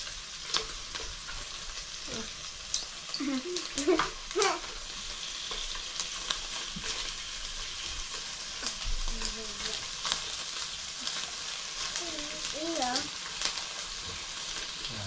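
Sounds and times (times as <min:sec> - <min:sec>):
meat and mushrooms sizzling in pan: 0:00.0 - 0:15.0.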